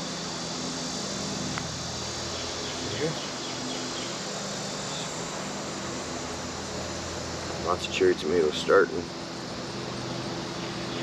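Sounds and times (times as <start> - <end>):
insects buzzing: 0.0 - 11.0
low even hum: 0.0 - 11.0.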